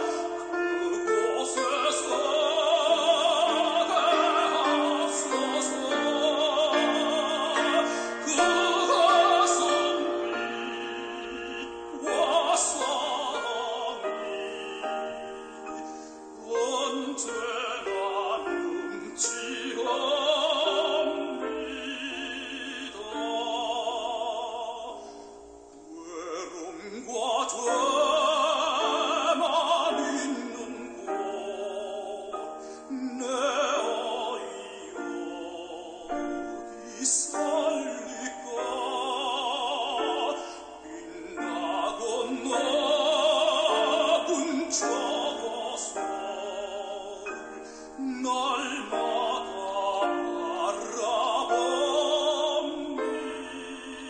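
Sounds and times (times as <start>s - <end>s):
operatic singing: 0.0s - 54.0s.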